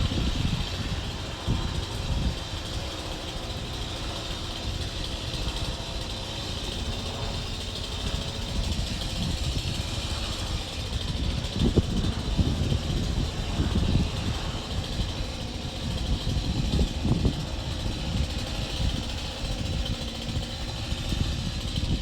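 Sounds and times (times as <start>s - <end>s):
chainsaw engine running: 0.0s - 22.0s.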